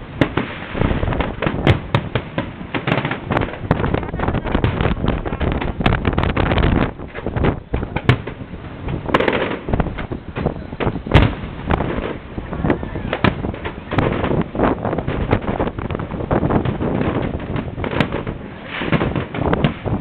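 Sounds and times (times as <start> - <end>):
fireworks banging and cracking: 0.0 - 20.0.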